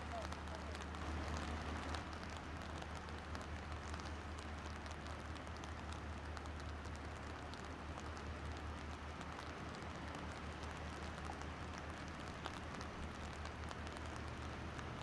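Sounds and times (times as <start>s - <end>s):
rain drops ticking: 0.0s - 15.0s.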